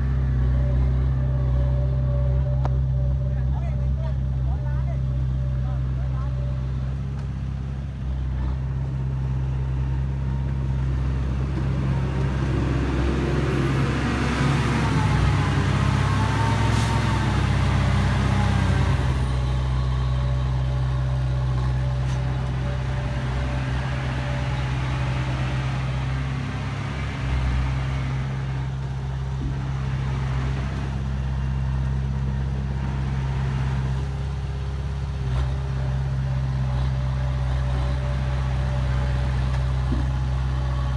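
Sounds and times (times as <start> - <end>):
heavy diesel machinery drone: 0.0 - 40.9.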